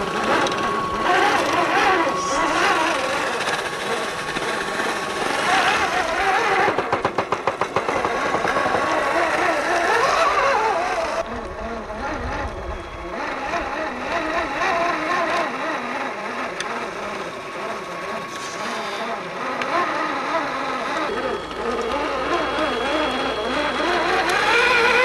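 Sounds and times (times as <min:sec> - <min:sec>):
tyres churning through mud: 0:00.0 - 0:12.4, 0:13.0 - 0:25.0
electric motor and gearbox whining: 0:00.0 - 0:25.0.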